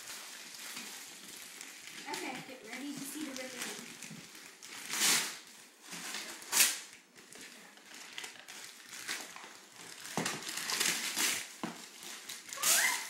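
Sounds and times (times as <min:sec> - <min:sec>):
wrapping paper ripping: 0:00.0 - 0:13.0.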